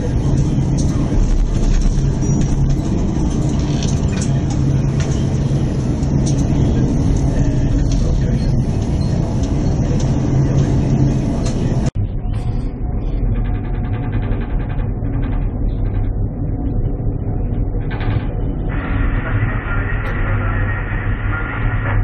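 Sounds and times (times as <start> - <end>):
steady low hum: 0.0 - 22.0
storm wind and heavy sea roar: 0.0 - 22.0.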